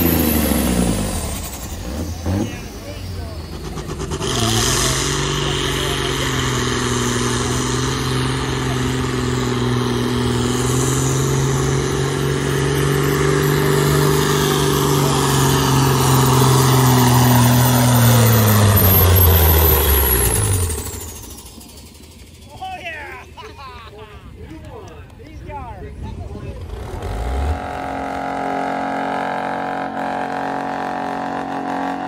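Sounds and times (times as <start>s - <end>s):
diesel truck engine at high revs: 0.0s - 22.6s, 26.0s - 32.0s.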